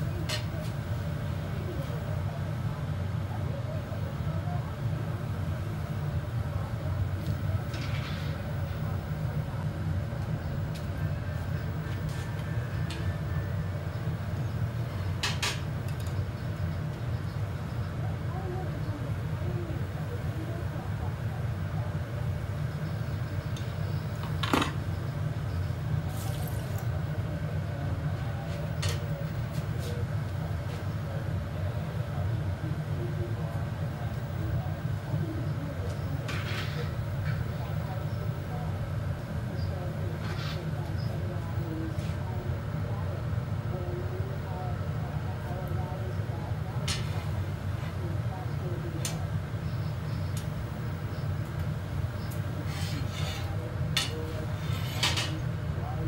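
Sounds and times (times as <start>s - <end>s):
gas burner roaring: 0.0s - 56.0s.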